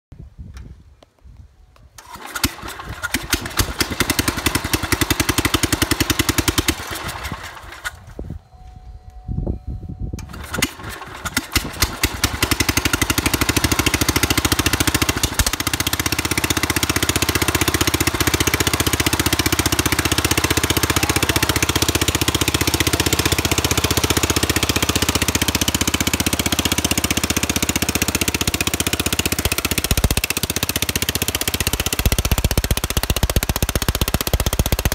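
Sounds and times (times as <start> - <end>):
garden tractor engine starting: 1.9 - 8.4, 10.2 - 34.9.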